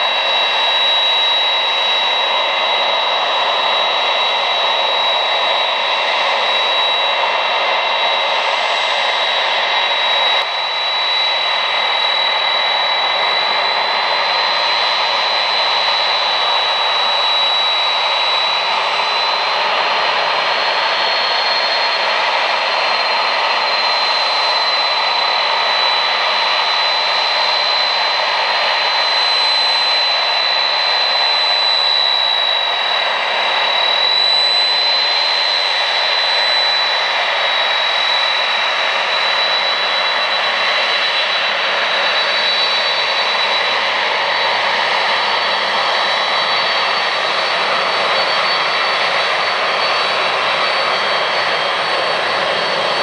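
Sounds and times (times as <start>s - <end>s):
jet engines whining and hissing: 0.0s - 53.0s.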